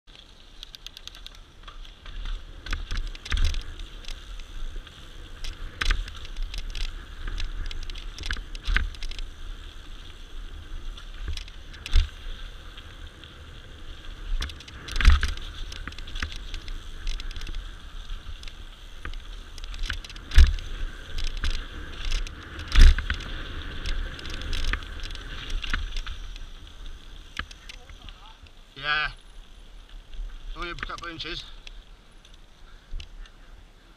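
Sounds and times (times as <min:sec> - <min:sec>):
bike frame and chain rattling: 0:00.1 - 0:33.1.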